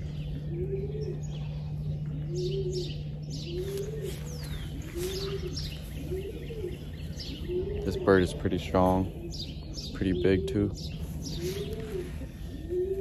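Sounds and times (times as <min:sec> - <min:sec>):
pigeons cooing: 0:00.0 - 0:13.0
steady low hum: 0:00.0 - 0:13.0.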